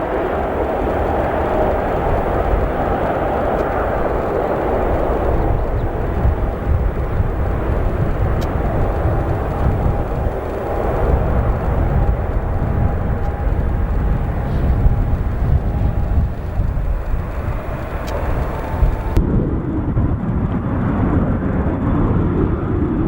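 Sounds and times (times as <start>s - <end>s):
faint jet engine whine: 0.0s - 23.0s
jet engines rumbling: 0.0s - 23.0s.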